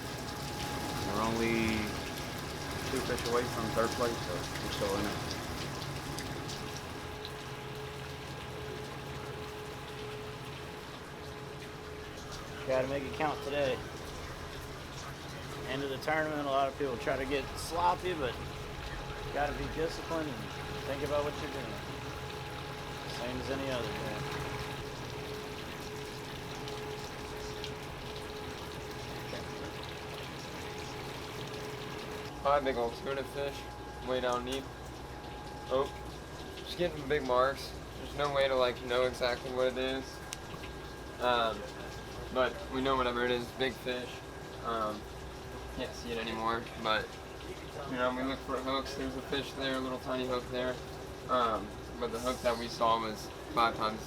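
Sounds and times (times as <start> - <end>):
boat machinery humming: 0.0 - 54.0
thin steady whine: 0.0 - 54.0
water washing: 0.0 - 54.0.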